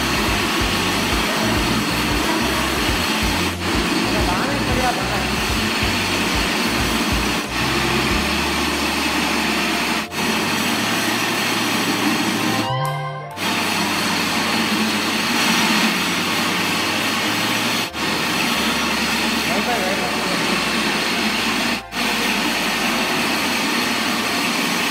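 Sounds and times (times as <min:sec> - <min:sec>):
floor-grinding machine grinding: 0:00.0 - 0:24.9.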